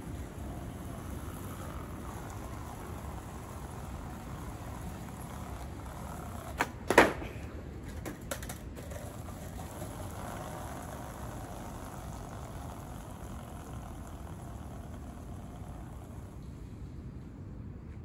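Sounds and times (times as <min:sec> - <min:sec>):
skateboard clacking on pavement: 0:00.0 - 0:16.4.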